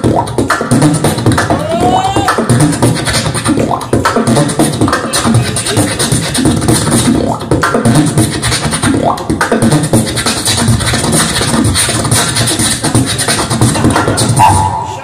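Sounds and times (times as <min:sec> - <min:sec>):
beatboxing through a microphone: 0:00.0 - 0:15.0.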